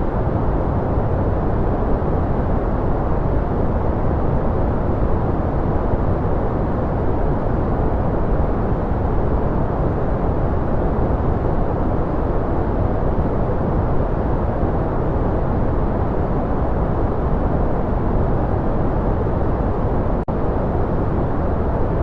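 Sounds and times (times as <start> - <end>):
deep muffled white noise: 0.0 - 22.0.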